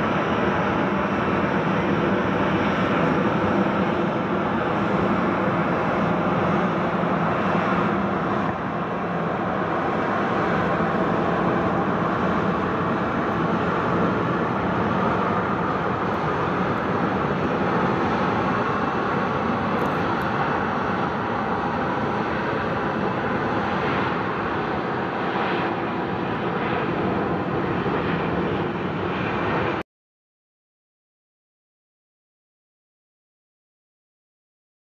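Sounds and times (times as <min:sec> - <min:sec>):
jet engines idling: 0:00.0 - 0:29.8.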